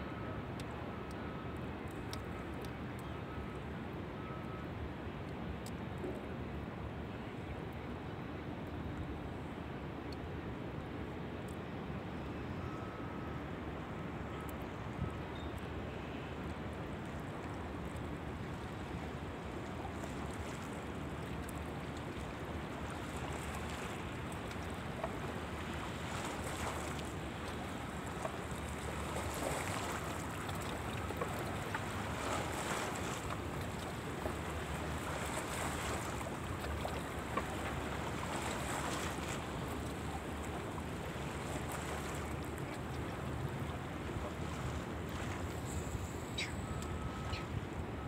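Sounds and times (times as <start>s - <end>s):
calm water lapping: 0.0s - 48.0s
low rumble of wind: 0.0s - 48.0s.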